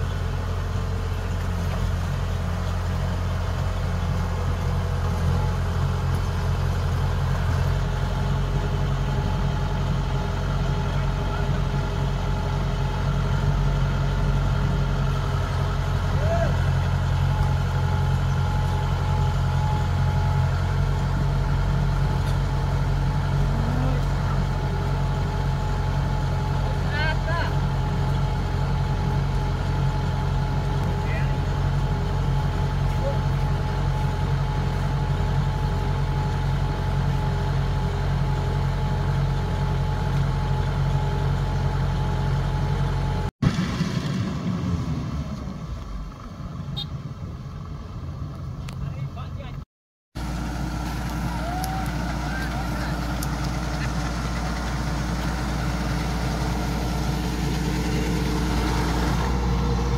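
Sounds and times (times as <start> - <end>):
diesel engine droning: 0.0 - 49.6, 50.2 - 59.9
distant combine harvester working: 0.0 - 49.6, 50.2 - 59.9.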